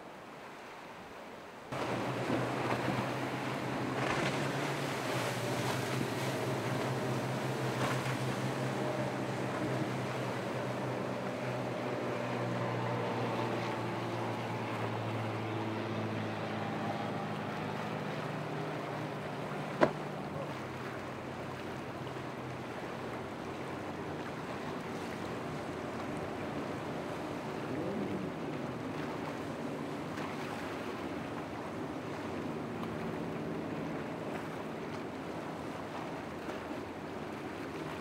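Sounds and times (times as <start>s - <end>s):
outboard engines droning: 0.0s - 38.0s
wind and waves hissing: 0.0s - 38.0s.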